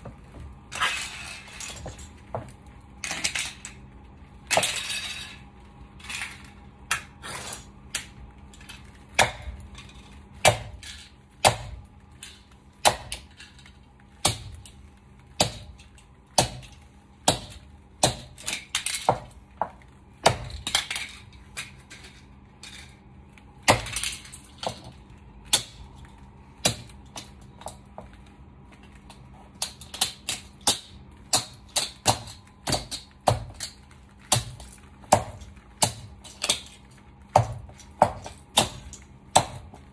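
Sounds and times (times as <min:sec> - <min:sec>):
toy cars cracking and crunching: 0:00.7 - 0:27.6, 0:28.2 - 0:39.9.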